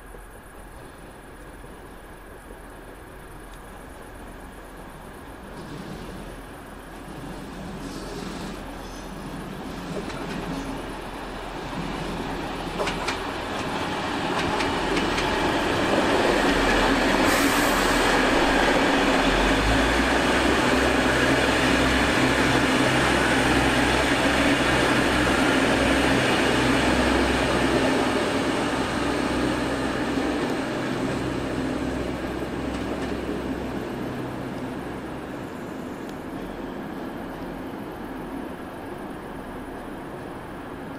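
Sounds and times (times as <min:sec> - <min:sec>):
diesel train engine drone: 0:00.0 - 0:40.9
train wheels on rail: 0:00.0 - 0:40.9.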